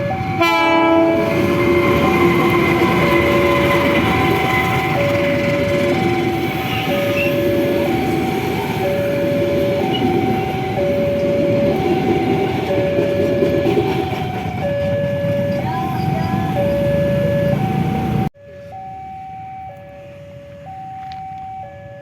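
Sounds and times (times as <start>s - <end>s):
train rumbling past on rails: 0.0s - 18.3s
level-crossing alarm two-tone: 0.0s - 22.0s.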